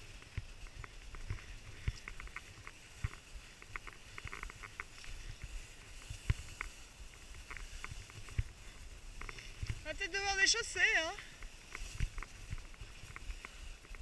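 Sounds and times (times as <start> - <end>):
skis and poles clicking on snow: 0.0 - 14.0.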